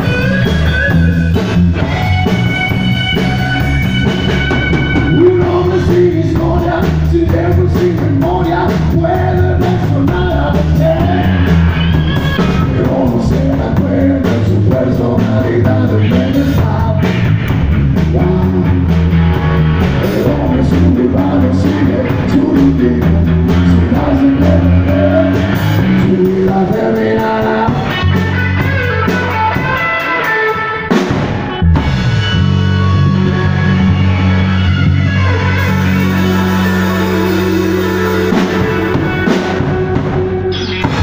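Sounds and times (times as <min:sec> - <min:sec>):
bass guitar: 0:00.0 - 0:41.0
drums: 0:00.0 - 0:41.0
electric guitar: 0:00.0 - 0:41.0.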